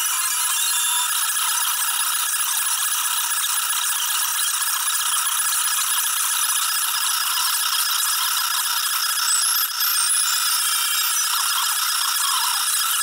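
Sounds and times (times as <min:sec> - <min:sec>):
motors chirping: 0:00.0 - 0:13.0
stepper motors whining with rattle: 0:00.0 - 0:13.0.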